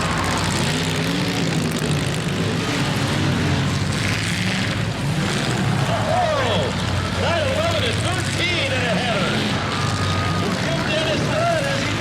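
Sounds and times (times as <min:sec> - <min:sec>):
car engines revving together: 0:00.0 - 0:12.0.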